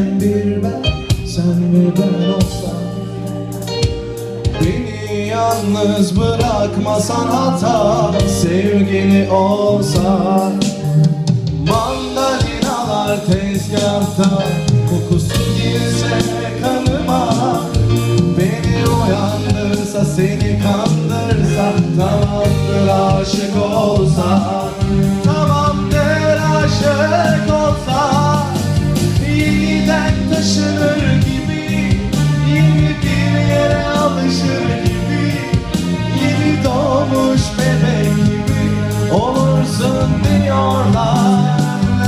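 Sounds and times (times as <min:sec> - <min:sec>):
person singing: 0:00.0 - 0:03.7, 0:04.5 - 0:42.0
bass guitar: 0:00.0 - 0:42.0
drum kit steady beat: 0:00.0 - 0:42.0
electric keyboard: 0:00.0 - 0:42.0.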